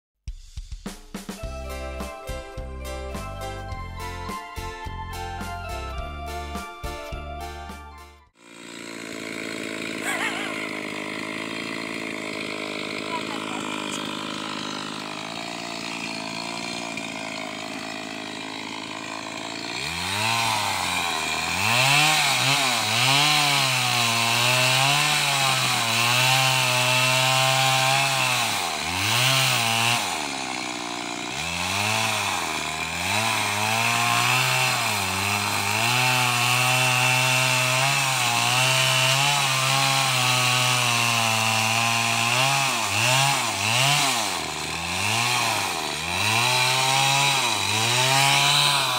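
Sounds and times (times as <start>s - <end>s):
chainsaw cutting wood: 1.3s - 48.9s.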